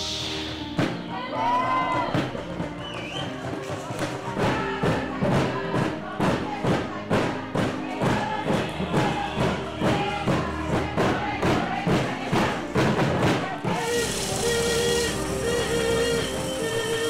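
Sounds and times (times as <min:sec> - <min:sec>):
music with steady beat: 0:00.0 - 0:17.0.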